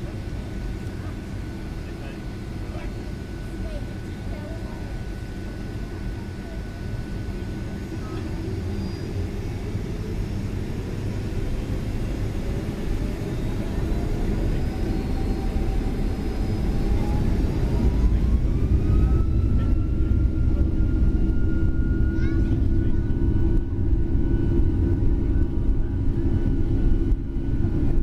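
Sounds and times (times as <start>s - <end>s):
deep engine rumble: 0.0s - 28.0s
jet engine whine rising: 0.0s - 28.0s.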